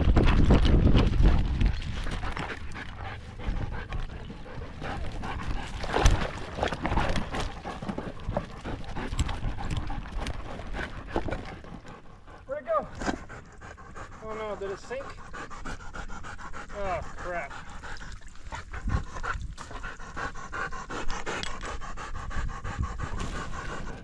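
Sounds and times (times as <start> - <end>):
dog panting: 1.1 - 24.0.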